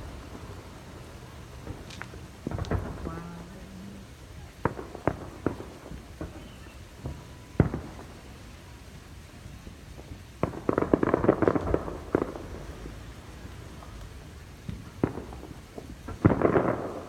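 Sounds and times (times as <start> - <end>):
distant firework bangs: 0.0 - 17.0
rapid crackling firework pops: 0.0 - 17.0.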